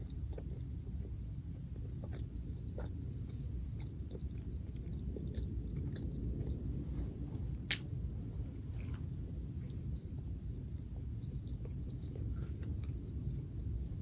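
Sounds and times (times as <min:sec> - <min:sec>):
person chewing food: 0:00.0 - 0:13.8
low rumble: 0:00.0 - 0:14.0.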